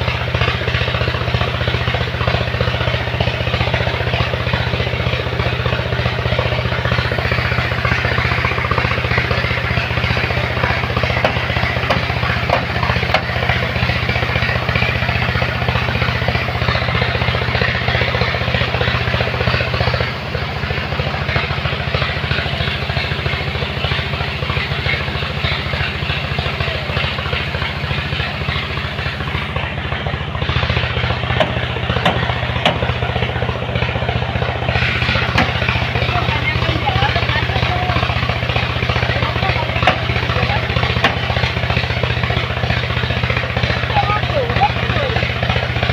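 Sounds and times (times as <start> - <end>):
truck engine running: 0.0 - 45.9.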